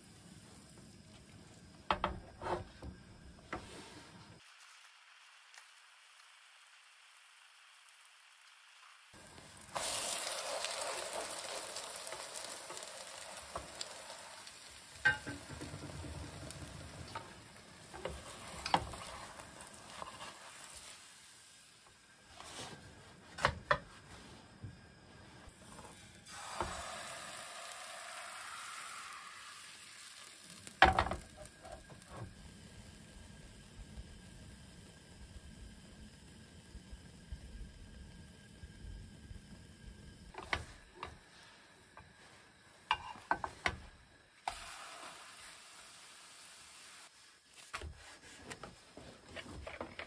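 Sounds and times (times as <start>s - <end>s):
batter sizzling in a frying pan: 0.0s - 49.6s.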